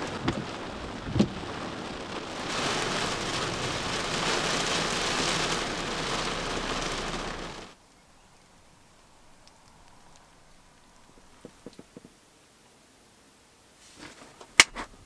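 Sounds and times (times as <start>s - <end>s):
rain falling: 0.0s - 14.8s.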